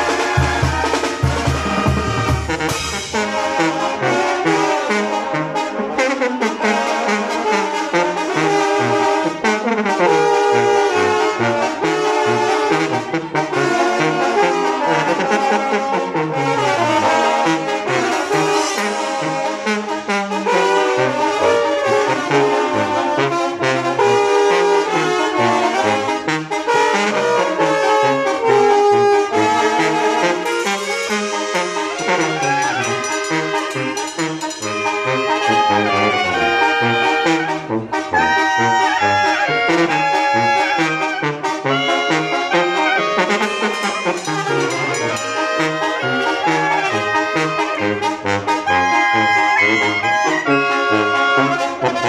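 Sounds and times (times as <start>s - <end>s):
brass band playing lively tune: 0.0s - 52.0s.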